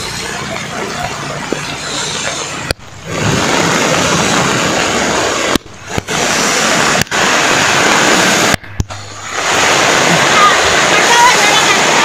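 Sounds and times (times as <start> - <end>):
heavy rain on a flooded street: 0.0 - 12.0.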